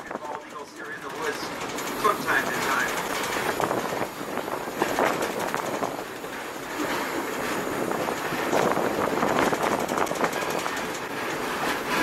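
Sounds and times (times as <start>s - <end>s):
train wheels rumbling on rails: 0.0s - 12.0s
wheels clicking and clacking: 0.0s - 12.0s.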